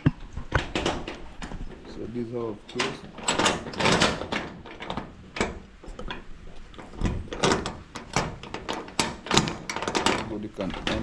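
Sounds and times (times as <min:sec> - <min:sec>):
door and padlocks rattling: 0:00.4 - 0:11.0.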